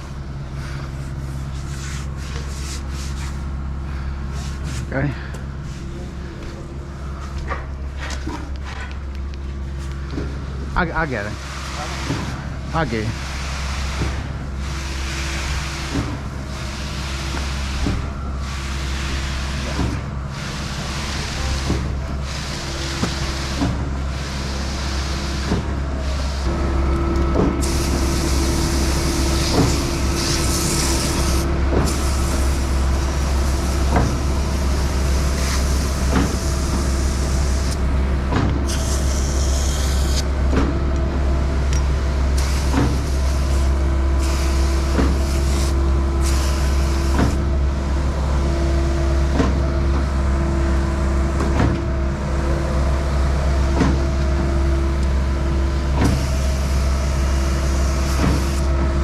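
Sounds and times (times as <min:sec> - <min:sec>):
skid-steer engine running: 0:03.4 - 0:59.0.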